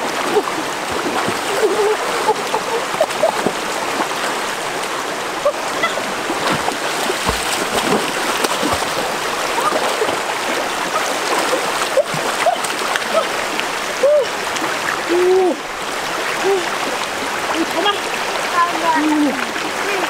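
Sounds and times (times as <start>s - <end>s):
splashing water: 0.0s - 20.0s
stream running over rocks: 0.0s - 20.0s.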